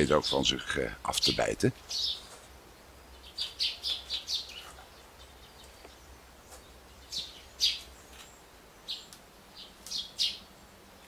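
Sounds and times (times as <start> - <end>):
small bird chirping: 1.2 - 11.0.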